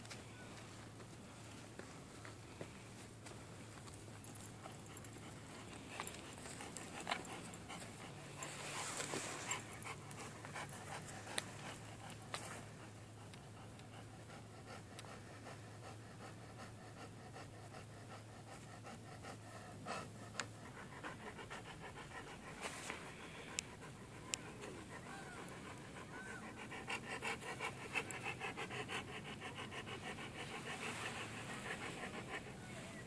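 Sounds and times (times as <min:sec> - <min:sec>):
dog panting: 0:03.3 - 0:33.0.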